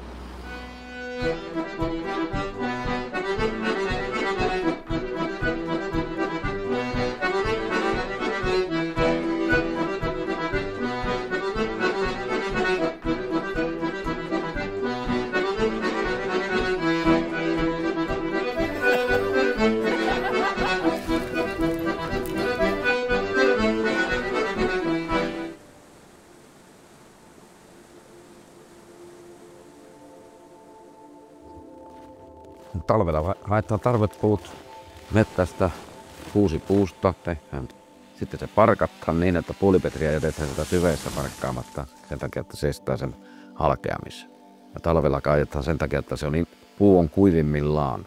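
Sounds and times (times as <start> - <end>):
instrumental folk music: 0.4 - 25.6, 31.5 - 48.0.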